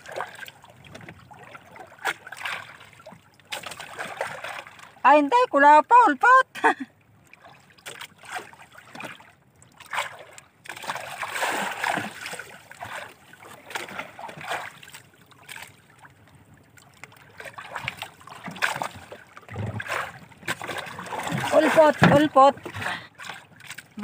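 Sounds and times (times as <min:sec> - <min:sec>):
seawater splashing against boat hull: 0:00.0 - 0:05.0, 0:07.3 - 0:24.0.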